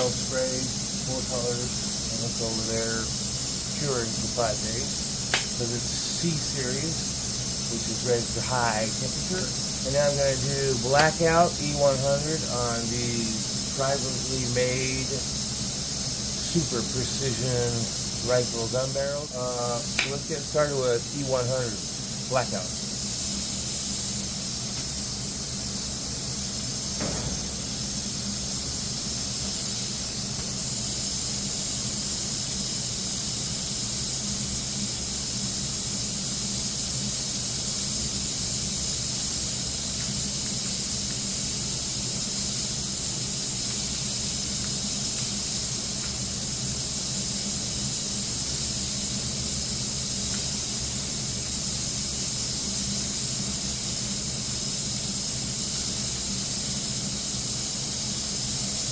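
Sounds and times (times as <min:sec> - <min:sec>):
spray gun hissing: 0:00.0 - 0:58.9.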